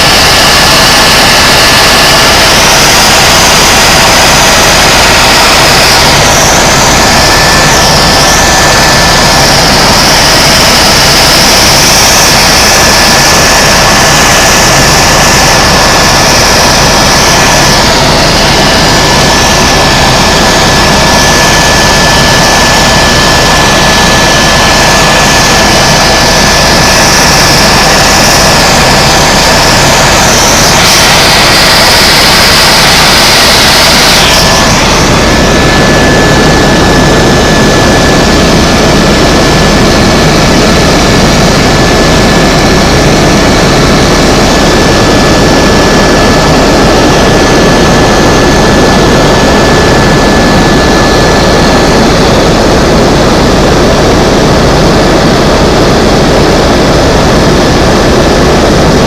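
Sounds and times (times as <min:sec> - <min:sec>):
helicopter turbine and rotor: 0:00.0 - 0:59.0
thin steady whine: 0:00.0 - 0:59.0.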